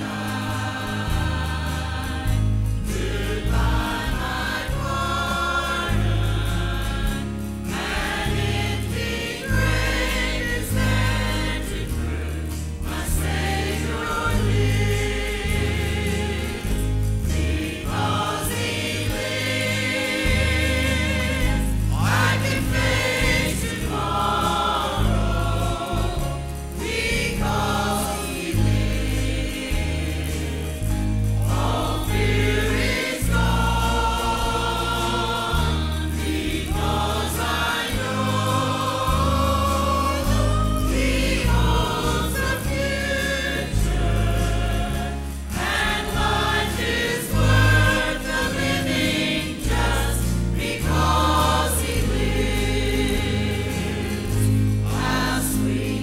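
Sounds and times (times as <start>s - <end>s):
bass line: 0.0s - 56.0s
choir singing a hymn: 0.0s - 56.0s
guitar: 0.0s - 56.0s
piano: 0.0s - 56.0s.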